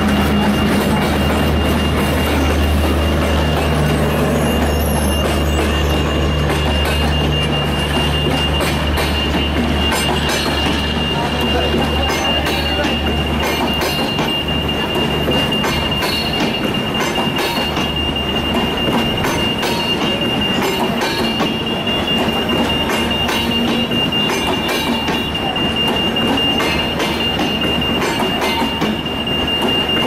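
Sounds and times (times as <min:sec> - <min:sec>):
continuous train rumble: 0:00.0 - 0:30.0
high-pitched wheel squeal: 0:00.0 - 0:30.0.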